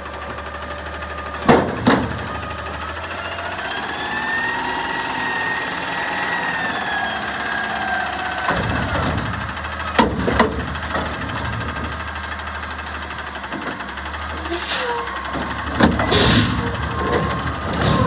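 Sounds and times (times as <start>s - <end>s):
garbage truck engine: 0.0s - 18.0s.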